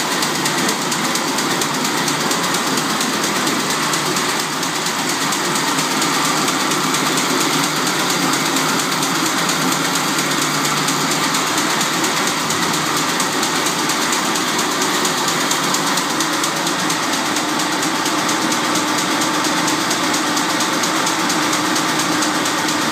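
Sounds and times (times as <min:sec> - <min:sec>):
jacquard machine clattering: 0:00.0 - 0:22.9.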